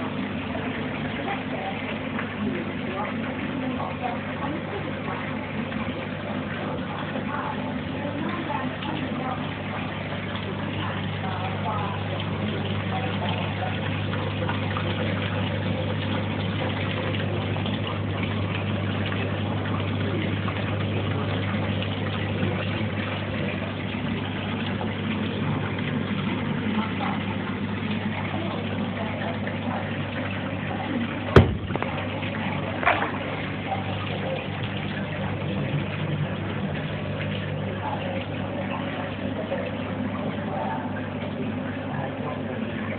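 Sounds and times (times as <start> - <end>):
aquarium filter pump humming: 0.0 - 42.9
water hissing and washing: 0.0 - 42.9.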